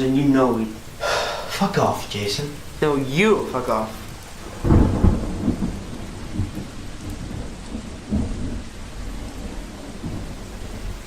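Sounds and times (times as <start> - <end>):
heavy rain: 0.0 - 11.0
rolling thunder: 0.8 - 11.0.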